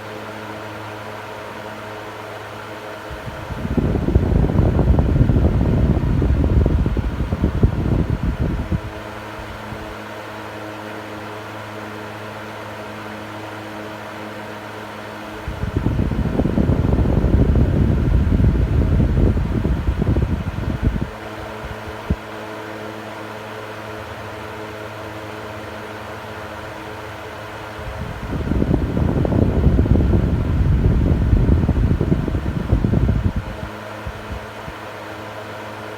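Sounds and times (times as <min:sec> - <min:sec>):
electric fan motor hum: 0:00.0 - 0:35.9.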